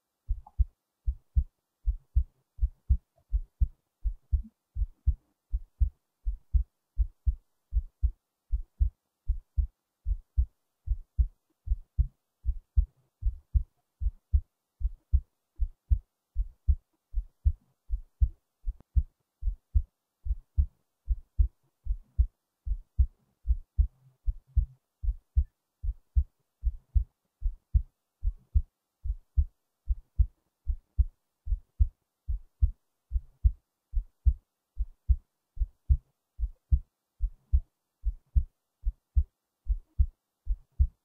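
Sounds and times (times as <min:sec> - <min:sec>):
heartbeat thumps: 0:00.3 - 0:41.0.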